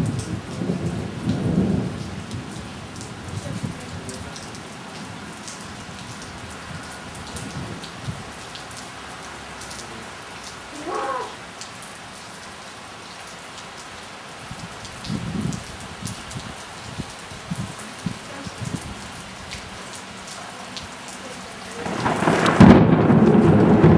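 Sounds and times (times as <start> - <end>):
heavy rain falling: 0.0 - 23.9.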